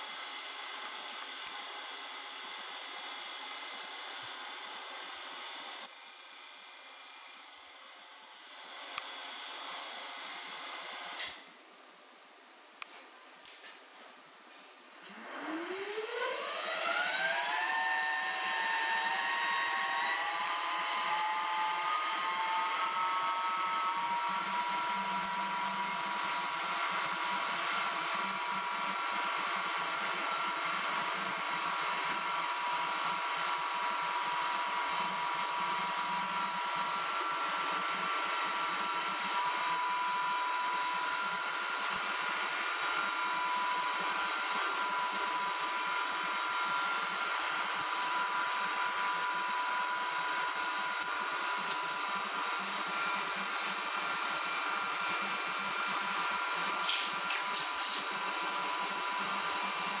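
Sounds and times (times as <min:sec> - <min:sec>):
mixer motor whine: 0:00.0 - 0:11.4, 0:15.0 - 1:00.0.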